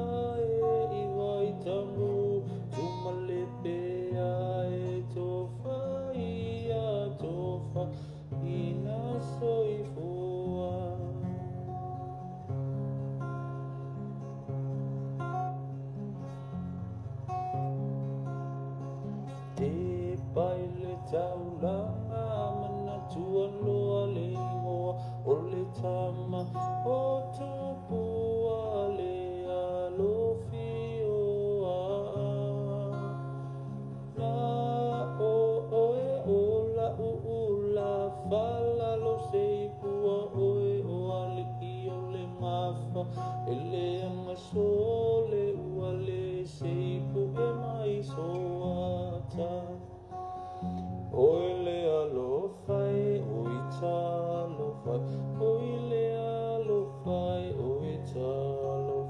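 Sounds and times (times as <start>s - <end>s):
man singing: 0.0s - 12.4s, 19.3s - 59.0s
acoustic guitar: 0.0s - 59.0s.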